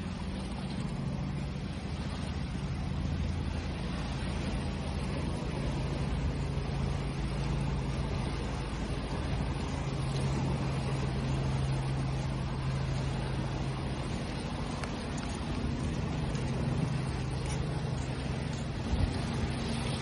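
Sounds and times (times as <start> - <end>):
low motor drone: 0.0 - 20.0
waves rushing: 0.0 - 20.0.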